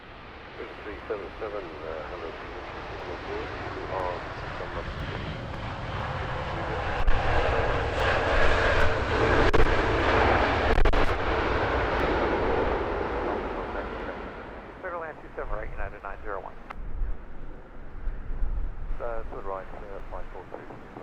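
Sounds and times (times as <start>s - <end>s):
jet airliner engines passing: 0.0s - 21.0s.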